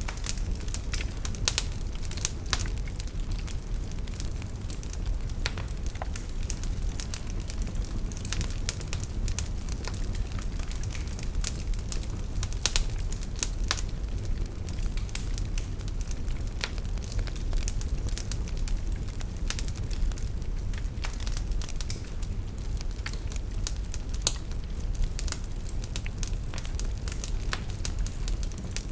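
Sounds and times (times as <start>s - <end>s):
fire rumbling: 0.0s - 28.9s
wood fire crackling and popping: 0.0s - 28.9s.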